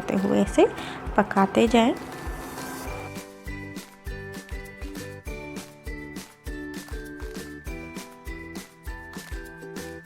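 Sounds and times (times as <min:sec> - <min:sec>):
upbeat jingly music: 0:00.0 - 0:10.0.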